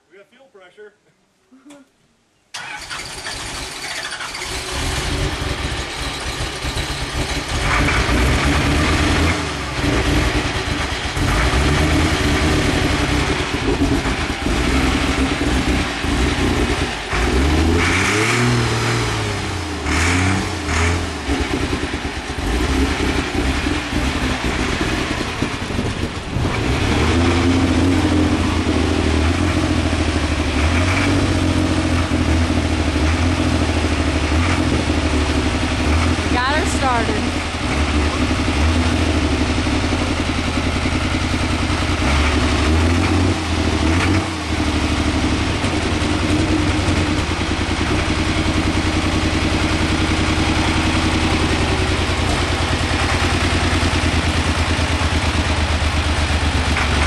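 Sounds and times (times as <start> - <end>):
tractor engine starting and revving: 2.5 - 57.0.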